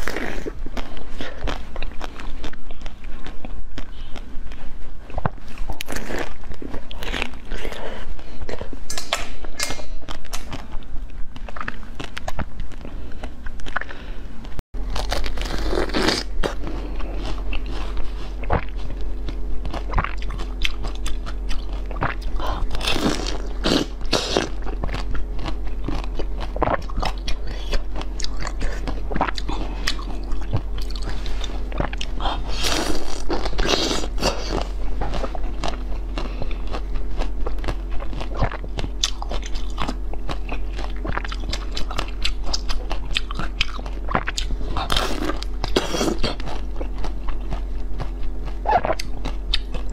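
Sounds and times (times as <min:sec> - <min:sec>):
crunching and chewing sweets: 0:00.0 - 0:49.9.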